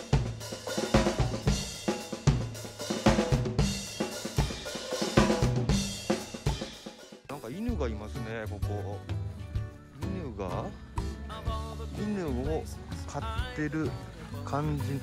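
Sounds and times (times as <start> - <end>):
drum kit playing a steady beat: 0.0 - 15.0.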